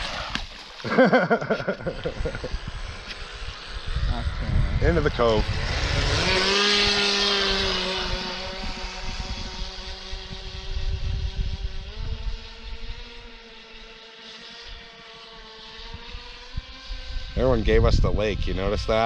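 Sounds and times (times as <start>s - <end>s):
model boat motor whining: 0.0s - 19.0s.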